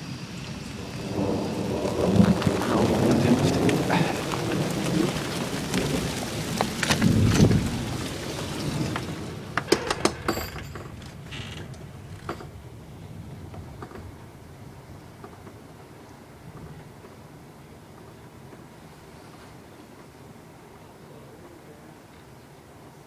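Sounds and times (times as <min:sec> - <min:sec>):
thunder rumbling and crackling: 0:00.0 - 0:18.5.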